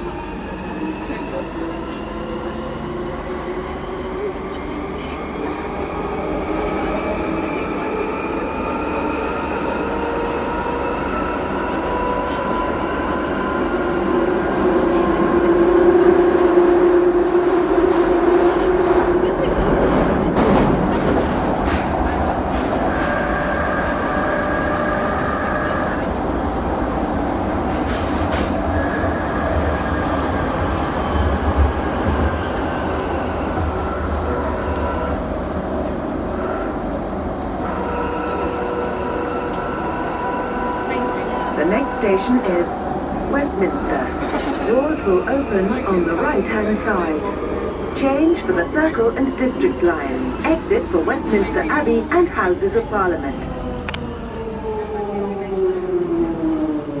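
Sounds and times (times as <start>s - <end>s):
train hum: 0.0s - 57.0s
underground train rumbling in tunnel: 0.0s - 57.0s.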